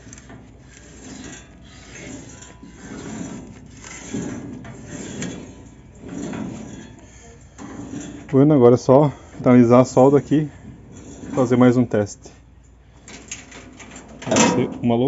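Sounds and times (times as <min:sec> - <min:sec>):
sheet metal scraping and rubbing: 0:00.0 - 0:15.0.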